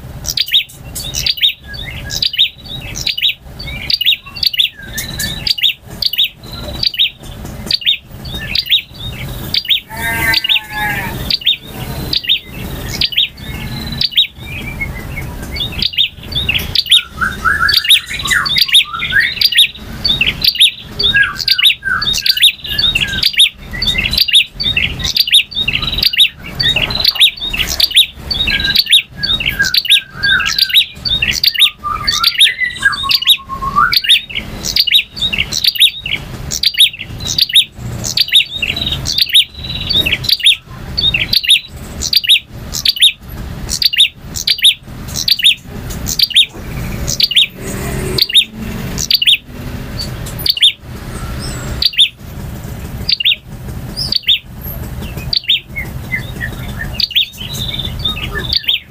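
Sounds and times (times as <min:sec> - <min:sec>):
bird singing chips and trills: 0:00.0 - 0:52.2, 0:52.8 - 0:58.9.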